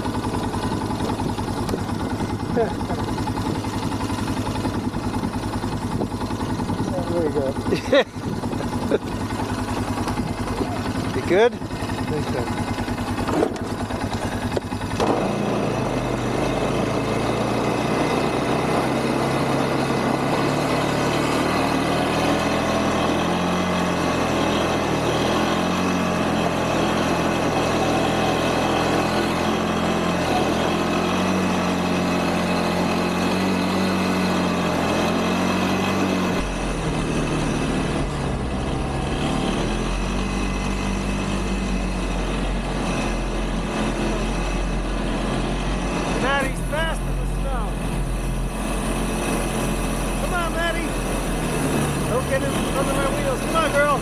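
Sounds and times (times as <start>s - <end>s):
quad engine running under load: 0.0s - 54.0s.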